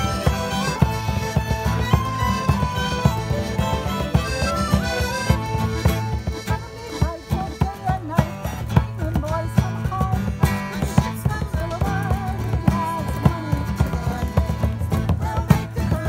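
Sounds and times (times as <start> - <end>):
piano accordion: 0.0 - 9.2, 12.0 - 16.0
strummed acoustic guitars: 0.0 - 16.0.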